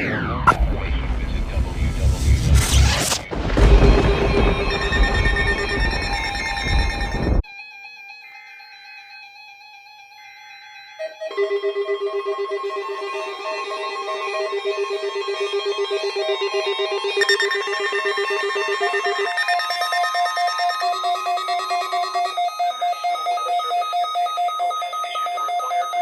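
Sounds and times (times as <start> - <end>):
higher beep: 0.0 - 7.4, 11.3 - 26.0
weather radio alert beeps: 0.0 - 7.4, 11.3 - 26.0.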